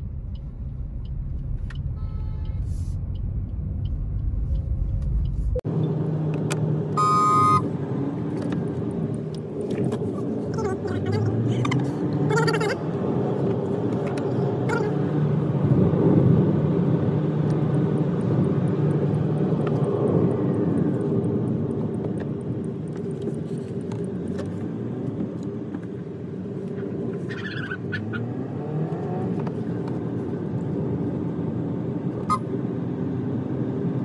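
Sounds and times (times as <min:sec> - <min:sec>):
car engine running: 0:00.0 - 0:28.2
road noise: 0:00.0 - 0:34.0.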